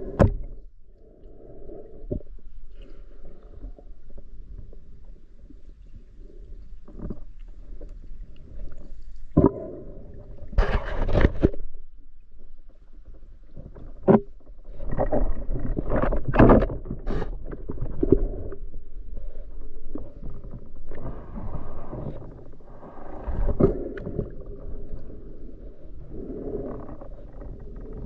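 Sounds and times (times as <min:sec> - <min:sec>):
water splashing and sloshing: 0:02.1 - 0:28.0.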